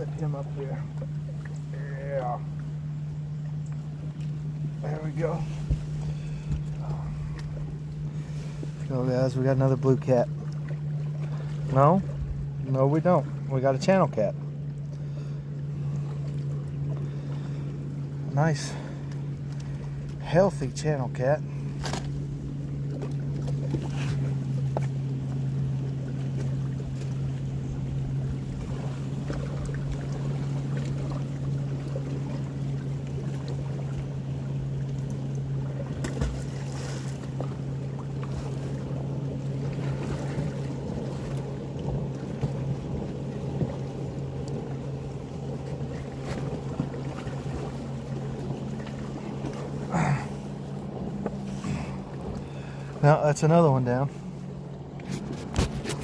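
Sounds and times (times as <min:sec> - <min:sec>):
boat motor humming: 0:00.0 - 0:56.0.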